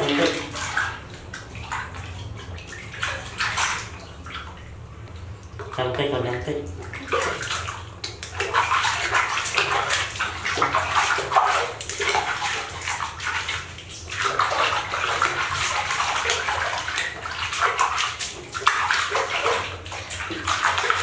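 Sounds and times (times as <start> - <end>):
water splashing in plastic basin: 0.0 - 21.0.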